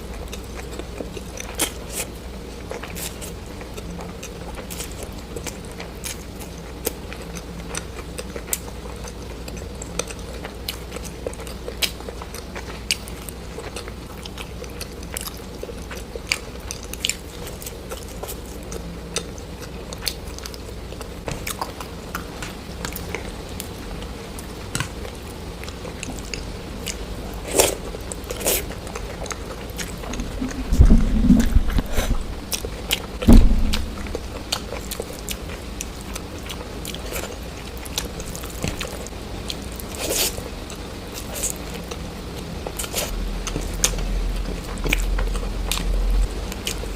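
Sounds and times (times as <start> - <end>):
person chewing crunchy food: 0.0 - 46.9
steady low hum: 0.0 - 46.9.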